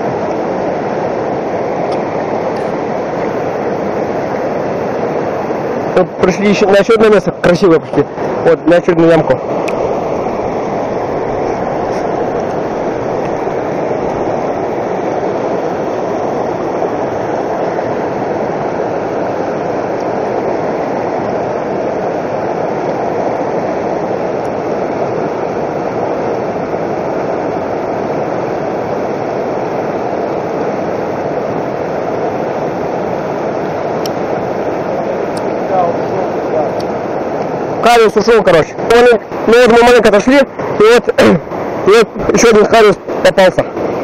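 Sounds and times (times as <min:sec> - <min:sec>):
river rushing over boulders: 0:00.0 - 0:44.0.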